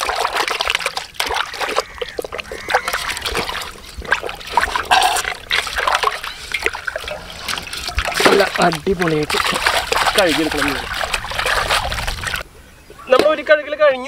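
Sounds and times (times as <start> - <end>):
loud splash: 0.0 - 12.4
water sloshing in plastic basin: 0.0 - 12.4
water dribbling: 0.0 - 12.5.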